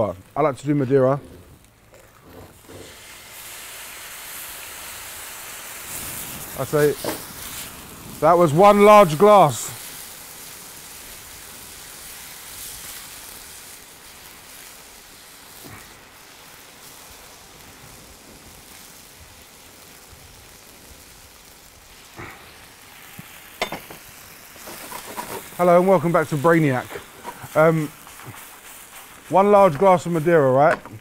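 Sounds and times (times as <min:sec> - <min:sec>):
wine sizzling in a frying pan: 0:00.0 - 0:31.0.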